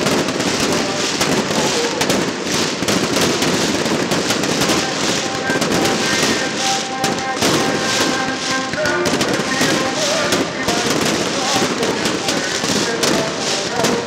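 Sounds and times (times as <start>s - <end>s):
firecrackers crackling and popping: 0.0s - 14.0s.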